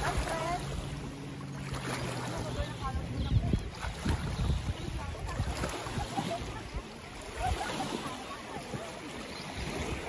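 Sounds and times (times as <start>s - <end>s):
small waves lapping: 0.0s - 10.0s
wind rumble on microphone: 0.0s - 10.0s.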